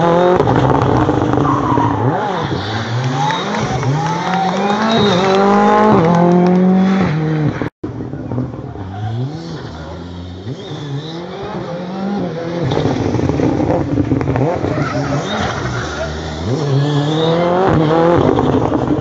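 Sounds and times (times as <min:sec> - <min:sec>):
distant rally car engine: 0:00.0 - 0:19.0
rally car engine revving: 0:00.0 - 0:19.0.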